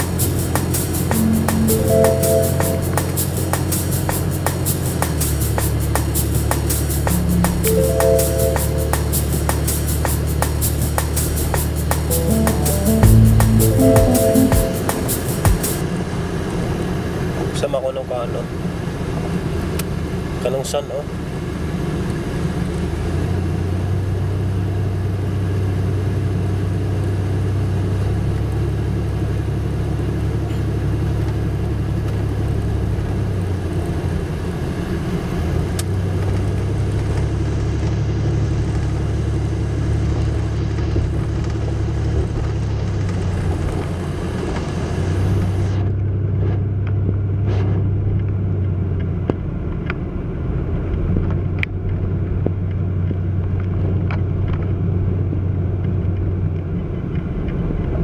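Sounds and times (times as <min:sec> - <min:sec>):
vehicle engine and road noise: 0:00.0 - 0:01.1, 0:03.0 - 0:07.2, 0:08.7 - 0:12.1, 0:15.8 - 0:58.0.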